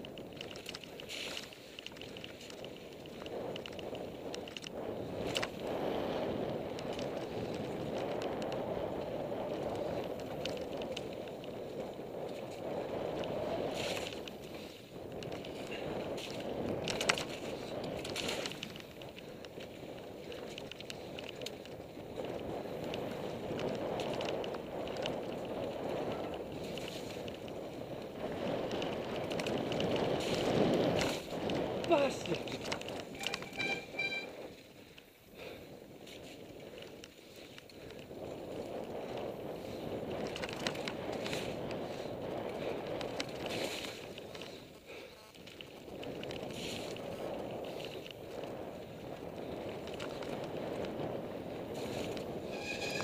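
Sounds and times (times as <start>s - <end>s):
bike clicks and rattles: 0.0s - 53.0s.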